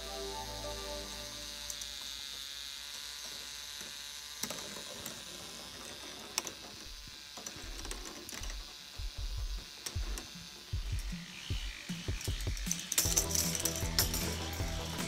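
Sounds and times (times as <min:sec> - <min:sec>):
motor whirring: 0:00.0 - 0:15.0.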